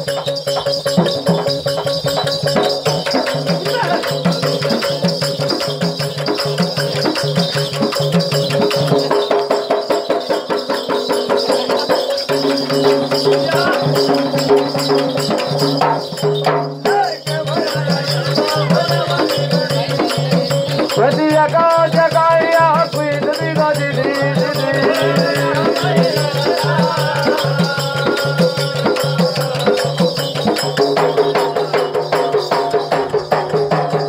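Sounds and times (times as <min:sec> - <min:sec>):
hand drum beating: 0:00.0 - 0:34.0
jingling percussion: 0:00.0 - 0:34.0.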